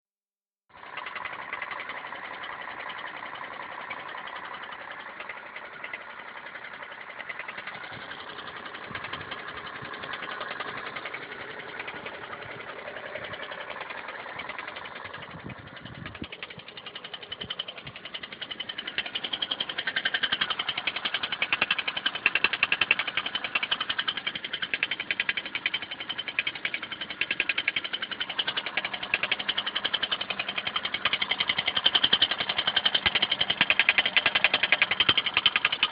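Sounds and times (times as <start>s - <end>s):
engine knocking: 0.7s - 35.9s.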